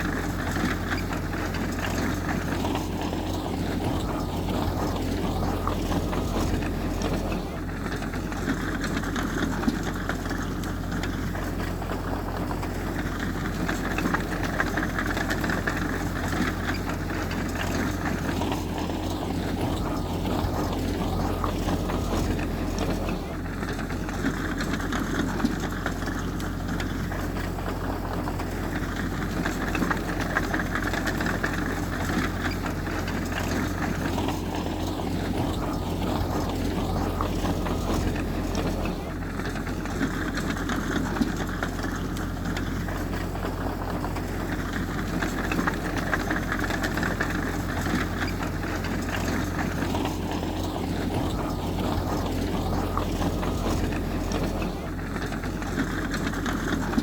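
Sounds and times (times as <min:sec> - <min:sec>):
heavy machinery diesel engine droning: 0:00.0 - 0:57.0.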